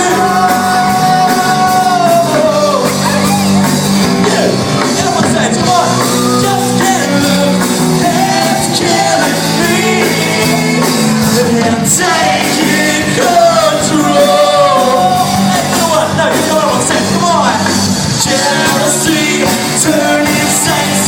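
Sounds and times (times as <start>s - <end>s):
lead vocal singing: 0.0s - 3.2s, 4.0s - 21.0s
live rock band playing: 0.0s - 21.0s.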